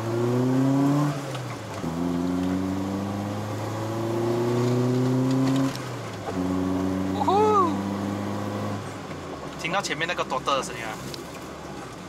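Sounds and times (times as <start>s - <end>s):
car engine accelerating through gears: 0.0s - 12.0s.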